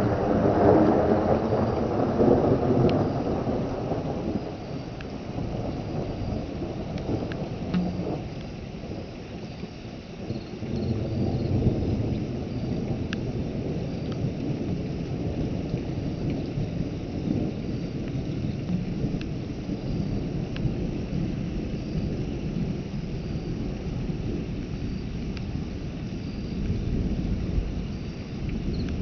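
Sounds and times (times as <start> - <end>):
rain falling: 0.0 - 29.0
thunder rumbling: 0.0 - 29.0.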